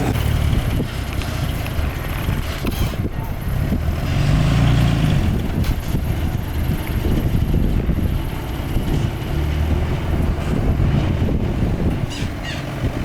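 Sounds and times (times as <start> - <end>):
diesel machinery engine drone: 0.0 - 13.0
wind noise on microphone: 0.0 - 13.0.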